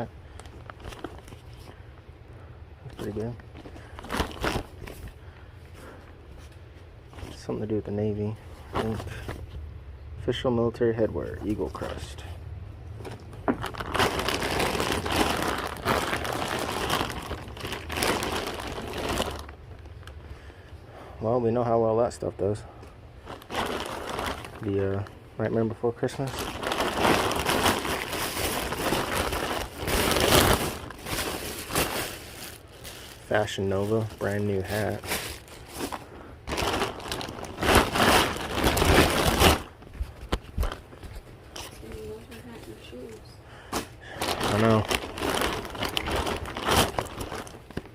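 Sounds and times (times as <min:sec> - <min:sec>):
bags and packaging rustling: 0:00.0 - 0:02.1, 0:02.8 - 0:09.6, 0:12.9 - 0:20.8, 0:21.5 - 0:47.9.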